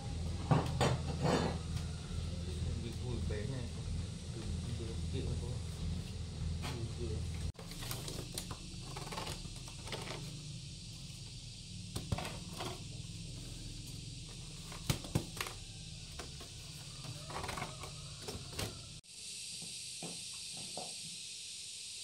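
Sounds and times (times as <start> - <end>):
bamboo baskets creaking and rustling: 0.0 - 19.0.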